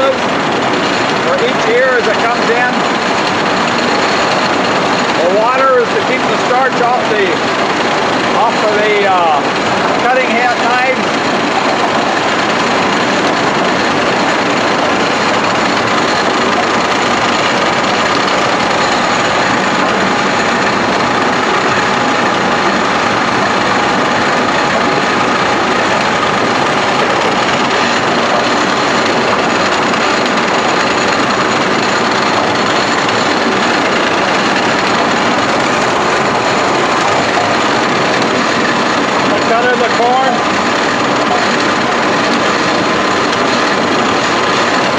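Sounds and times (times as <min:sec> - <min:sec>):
corn cutting machine running: 0:00.0 - 0:44.9.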